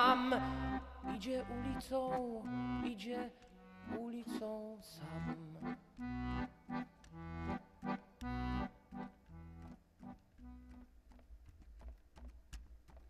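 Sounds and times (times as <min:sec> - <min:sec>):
accordion playing chords: 0:00.0 - 0:11.0.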